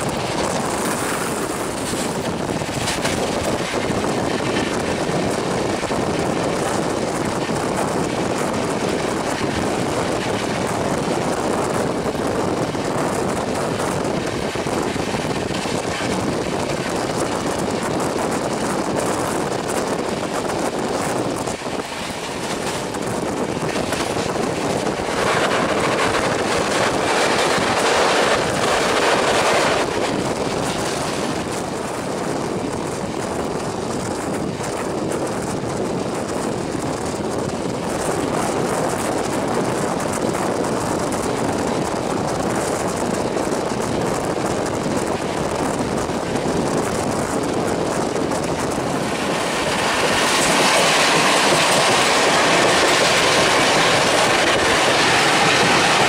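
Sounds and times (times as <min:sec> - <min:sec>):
rush of wind: 0:00.0 - 0:56.0
train wheels rumbling on rail: 0:00.0 - 0:56.0.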